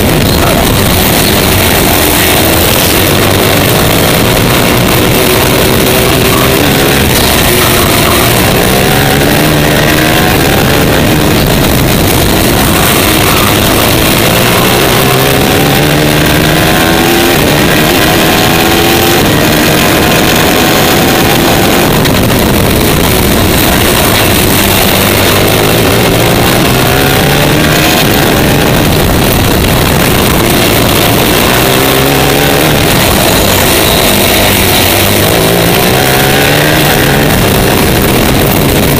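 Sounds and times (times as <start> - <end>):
kart engine racing: 0.0 - 38.9
wind rushing: 0.0 - 38.9.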